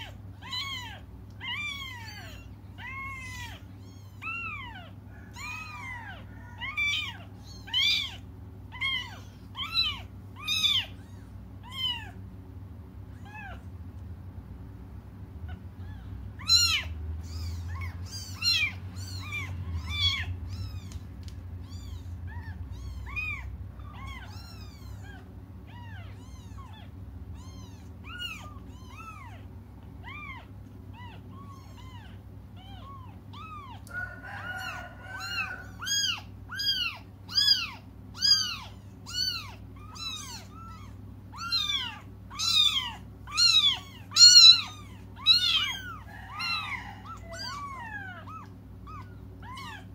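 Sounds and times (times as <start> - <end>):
kittens mewing: 0.0 - 13.9, 14.6 - 49.9
steady low hum: 0.0 - 49.9.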